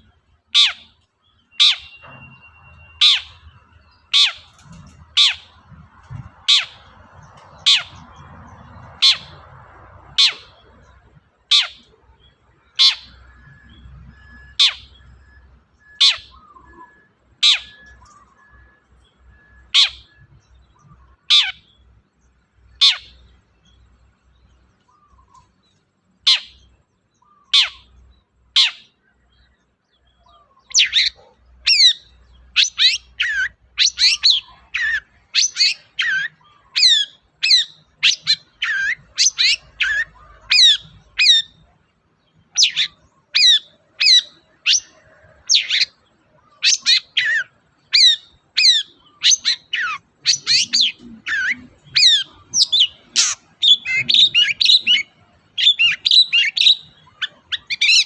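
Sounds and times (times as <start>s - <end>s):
bird singing and chattering: 0.0s - 58.0s.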